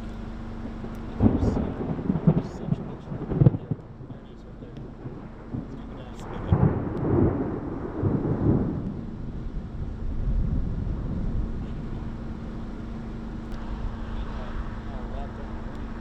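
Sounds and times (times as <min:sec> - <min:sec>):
steady low hum: 0:00.0 - 0:16.0
thunder rumbling: 0:00.6 - 0:16.0.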